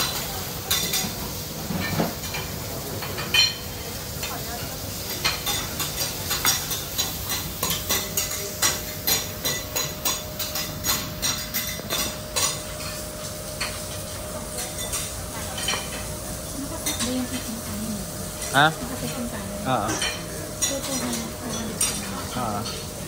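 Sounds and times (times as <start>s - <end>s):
food sizzling on a griddle: 0.0s - 23.0s.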